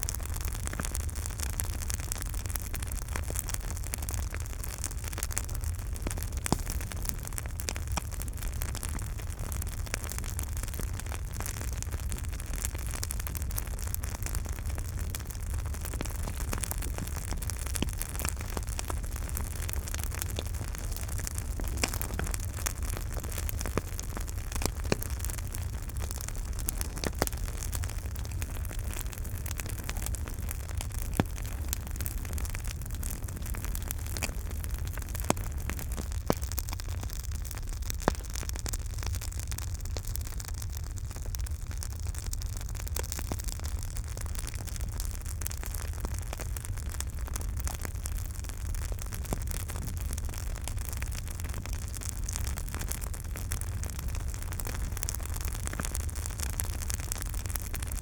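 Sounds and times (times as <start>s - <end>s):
campfire flames hissing: 0.0s - 58.0s
fire crackling pops: 0.0s - 58.0s.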